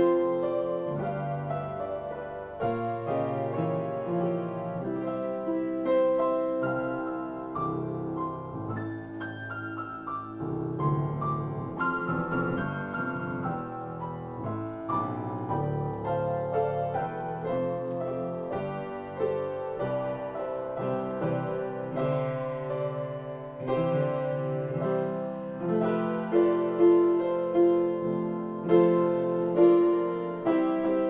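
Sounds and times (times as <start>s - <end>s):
solo piano improvisation: 0.0s - 31.0s.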